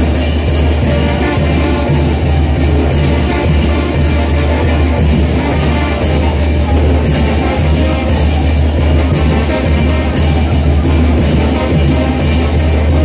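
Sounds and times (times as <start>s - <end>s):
brass band playing dance music: 0.0s - 13.0s.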